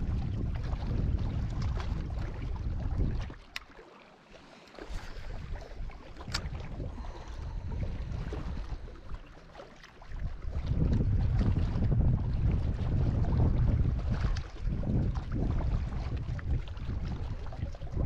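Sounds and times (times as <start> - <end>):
wind buffeting microphone: 0.0 - 3.4, 4.9 - 9.4, 10.0 - 18.0.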